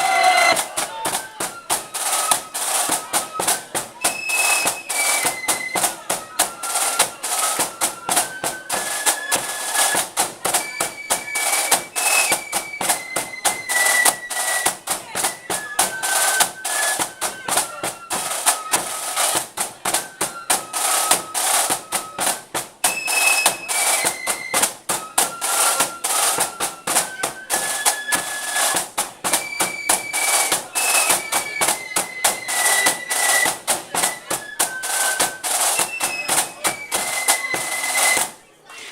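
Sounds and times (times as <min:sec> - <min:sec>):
quick steady drum beats: 0:00.0 - 0:38.4
high flute melody: 0:00.0 - 0:38.9.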